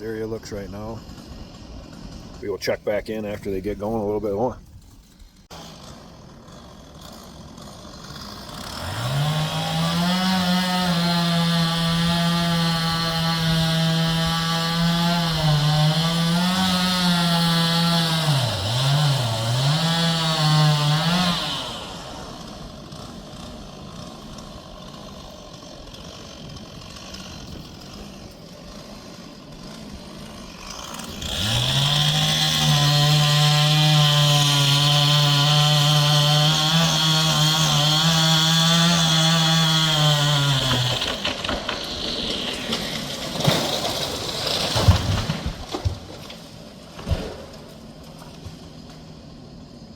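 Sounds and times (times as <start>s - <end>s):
chainsaw cutting trees: 0.0s - 49.9s.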